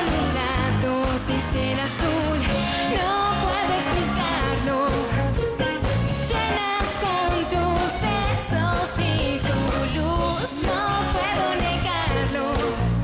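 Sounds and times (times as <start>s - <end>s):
woman singing: 0.0s - 5.6s, 6.2s - 13.0s
live pop-rock band: 0.0s - 13.0s.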